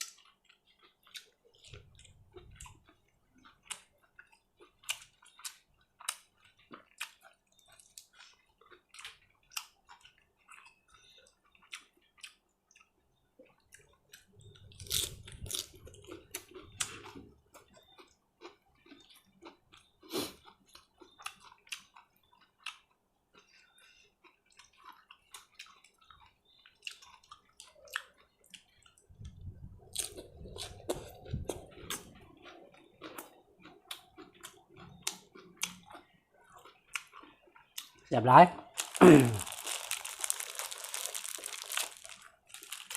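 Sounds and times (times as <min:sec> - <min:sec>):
person chewing and smacking: 0:00.0 - 0:42.9.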